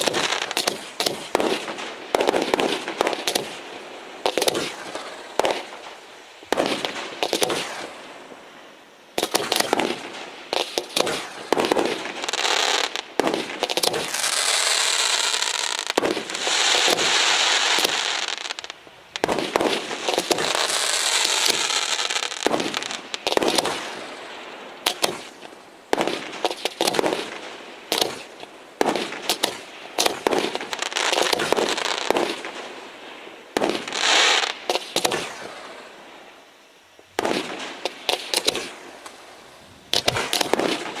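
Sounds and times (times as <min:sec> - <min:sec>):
firework crackling: 0:00.0 - 0:08.4, 0:09.1 - 0:36.3, 0:37.2 - 0:41.0.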